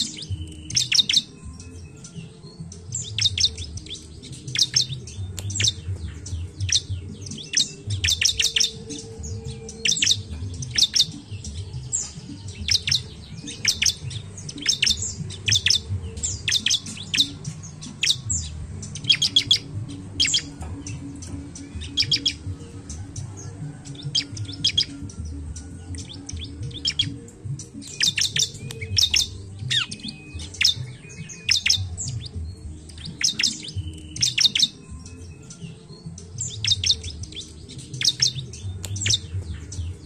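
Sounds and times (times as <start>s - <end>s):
bird chirping high and sharp: 0.0s - 25.0s, 25.6s - 40.0s.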